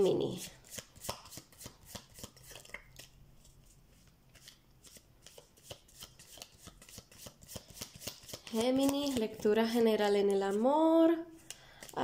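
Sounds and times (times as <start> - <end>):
cards being shuffled: 0.4 - 10.5, 11.4 - 12.0.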